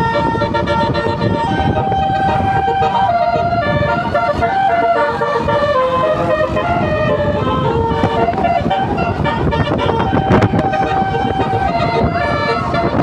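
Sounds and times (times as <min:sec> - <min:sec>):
musical bus horn melody: 0:00.0 - 0:13.0.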